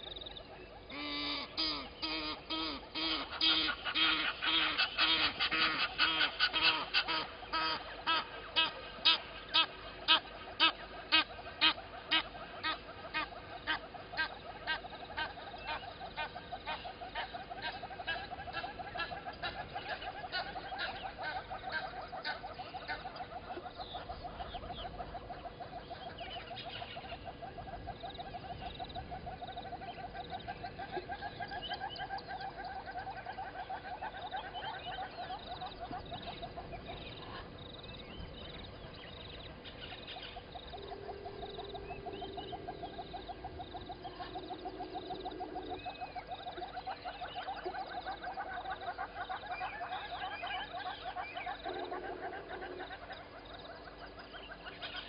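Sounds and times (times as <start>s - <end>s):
loud bird calls: 0.0s - 55.0s
rapid pulsing bird call: 0.0s - 55.0s.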